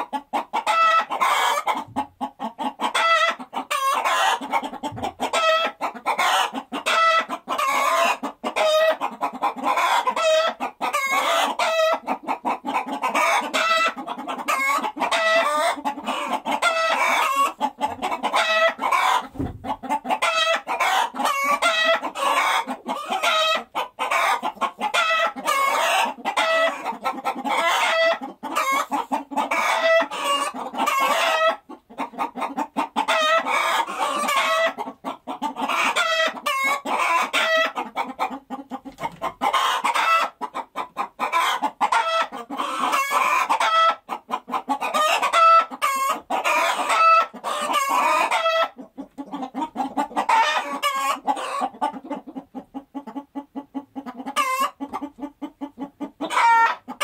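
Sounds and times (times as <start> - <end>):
hens clucking and cackling: 0.0 - 57.0.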